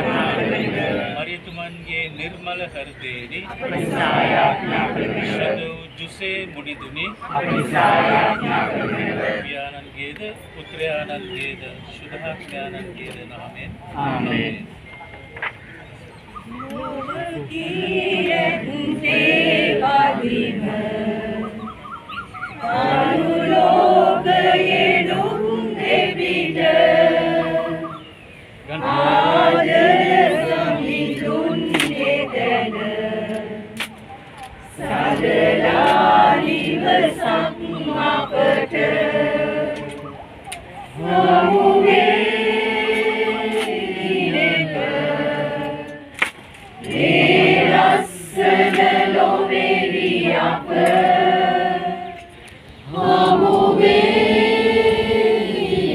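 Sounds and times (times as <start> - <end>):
group of voices singing: 0.0 - 1.2, 3.4 - 5.8, 7.0 - 9.6, 13.9 - 14.8, 16.4 - 21.9, 22.5 - 55.9.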